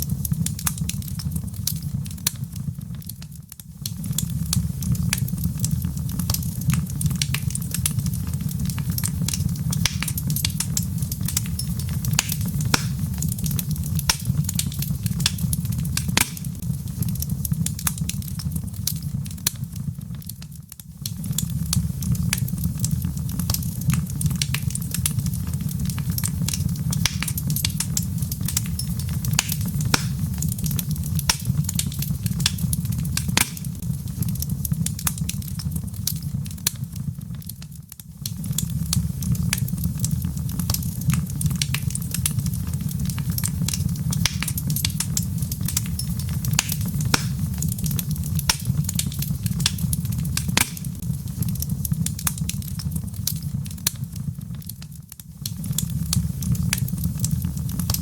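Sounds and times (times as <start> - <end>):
log fire crackling and popping: 0.0 - 58.0.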